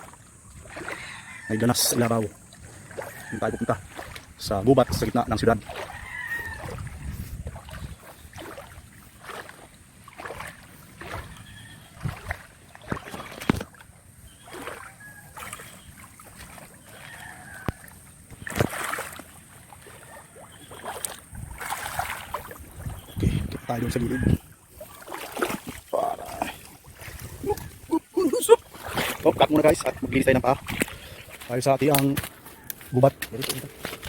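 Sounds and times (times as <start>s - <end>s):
footsteps wading through water: 0.0s - 34.0s
water splashing: 0.0s - 34.0s.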